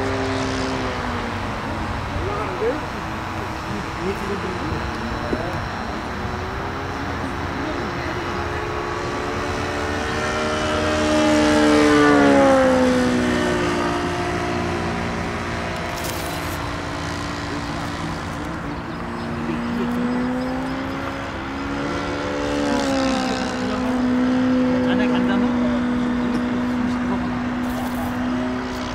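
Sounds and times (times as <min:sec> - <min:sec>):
model airplane motor droning: 0:00.0 - 0:28.9.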